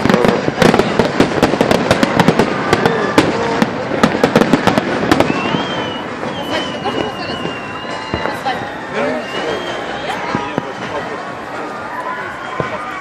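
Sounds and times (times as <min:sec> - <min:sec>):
fireworks bangs and crackles: 0:00.0 - 0:13.0
fireworks whistle: 0:00.0 - 0:13.0.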